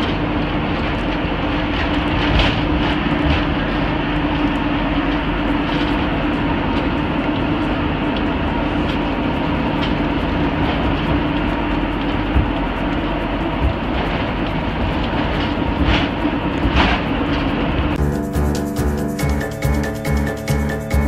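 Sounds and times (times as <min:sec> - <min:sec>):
road and engine drone inside vehicle: 0:00.0 - 0:18.0.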